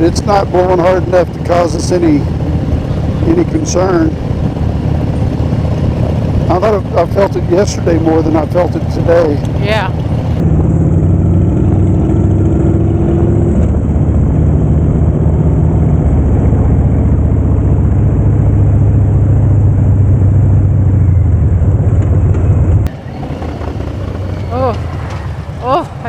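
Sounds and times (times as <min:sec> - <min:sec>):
motorcycle engine drone: 0:00.0 - 0:26.0.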